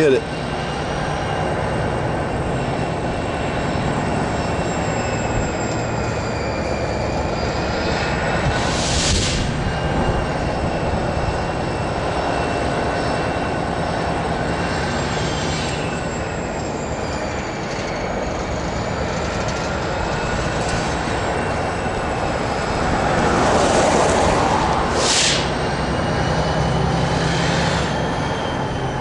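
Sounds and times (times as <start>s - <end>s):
diesel locomotive working: 0.0s - 29.0s
steel wheels squealing on rail: 0.0s - 29.0s.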